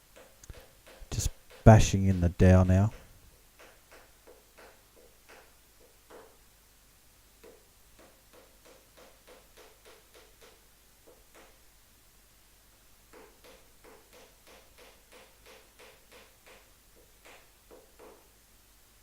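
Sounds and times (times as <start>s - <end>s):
hammer tapping wooden dowel: 0.1s - 6.4s, 7.4s - 11.6s, 13.1s - 18.3s.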